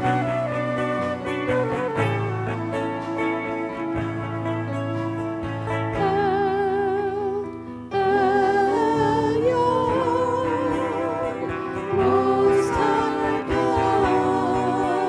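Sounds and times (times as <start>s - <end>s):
band holding chords: 0.0s - 15.0s.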